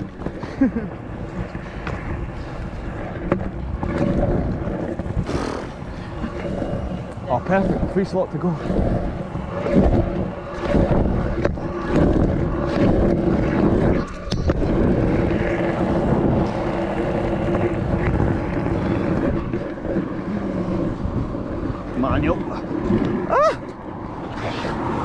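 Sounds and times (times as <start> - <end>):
scooter wheels rolling on wet tarmac: 0.0 - 25.0
wind buffeting microphone: 0.0 - 25.0.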